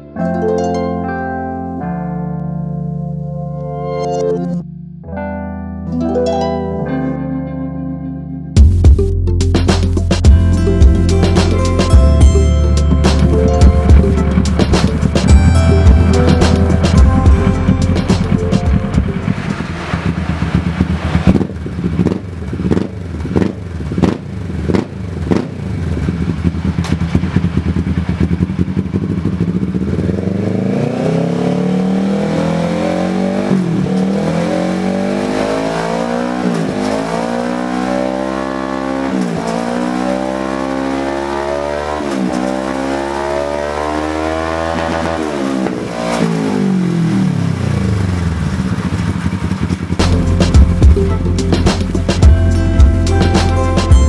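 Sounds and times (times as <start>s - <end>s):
motorcycle engine revving: 9.6s - 54.0s.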